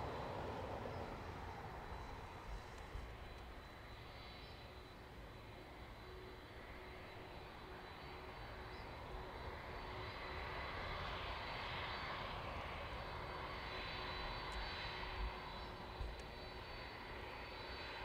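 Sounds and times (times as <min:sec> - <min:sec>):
distant aircraft engine: 0:00.0 - 0:18.0
faint steady whine: 0:00.0 - 0:18.0.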